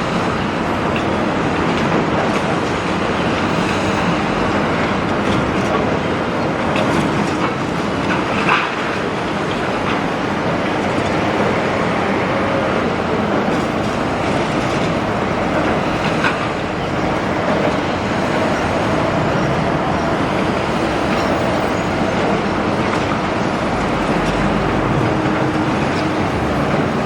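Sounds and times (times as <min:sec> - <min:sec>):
excavator running: 0:00.0 - 0:27.0.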